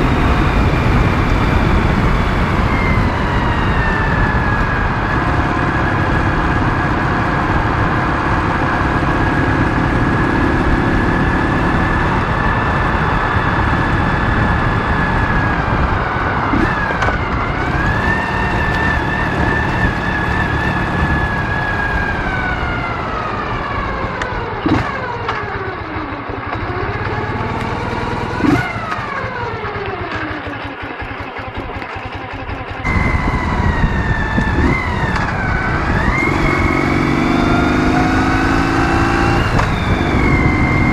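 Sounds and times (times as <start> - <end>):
wind rush on microphone: 0.0 - 24.9, 32.8 - 40.9
motorcycle engine running: 0.0 - 40.9.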